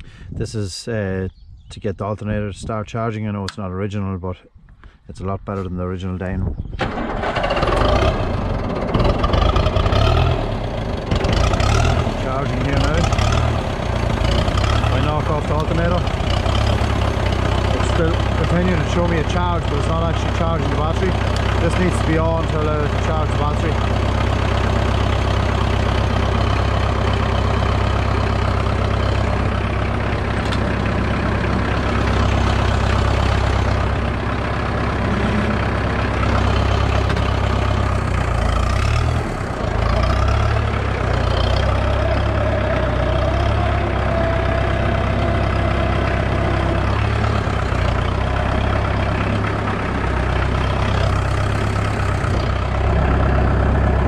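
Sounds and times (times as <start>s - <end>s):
tractor diesel engine idling: 5.5s - 54.0s.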